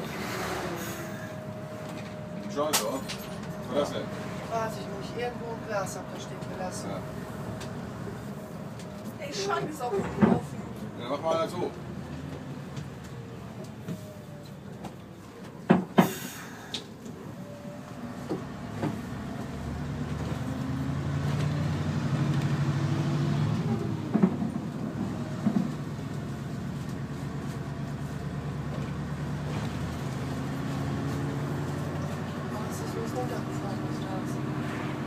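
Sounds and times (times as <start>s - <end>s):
bus diesel engine running: 0.0s - 35.0s.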